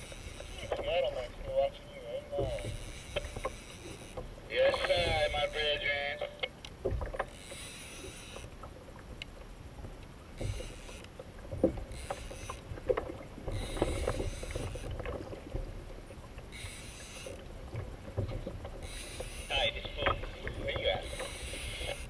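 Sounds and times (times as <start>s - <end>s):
fishing rod and reel knocks: 0.0s - 0.9s, 2.3s - 9.3s, 10.4s - 15.3s, 16.4s - 22.0s
water splashing against kayak hull: 0.0s - 22.0s.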